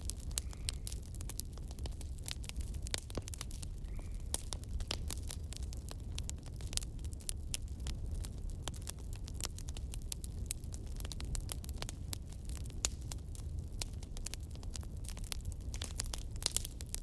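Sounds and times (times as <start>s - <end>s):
crackle of fine clicks: 0.0s - 17.0s.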